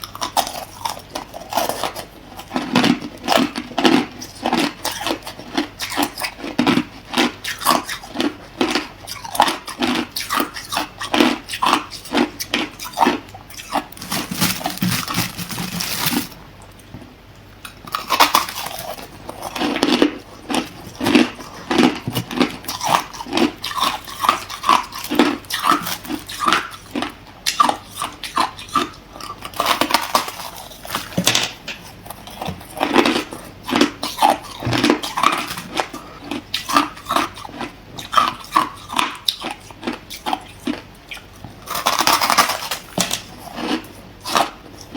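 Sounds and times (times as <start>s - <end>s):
ice crunching while chewed: 0.0s - 16.9s, 17.6s - 44.9s.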